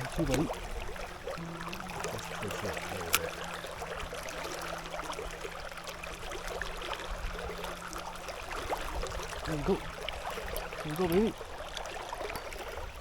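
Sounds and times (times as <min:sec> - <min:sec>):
river water trickling: 0:00.0 - 0:13.0.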